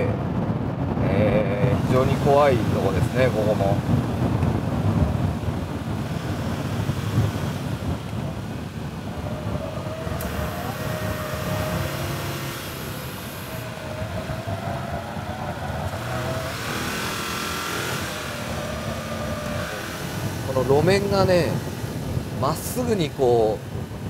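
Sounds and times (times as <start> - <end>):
car engine running hard: 0.0 - 24.0
road noise in cabin: 0.0 - 24.0.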